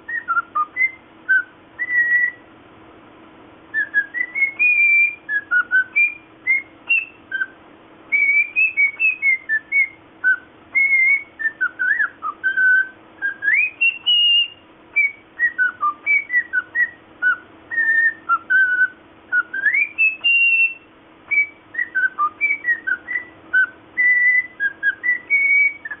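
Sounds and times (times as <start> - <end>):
cockatiel whistling: 0.0 - 2.4, 3.7 - 26.0.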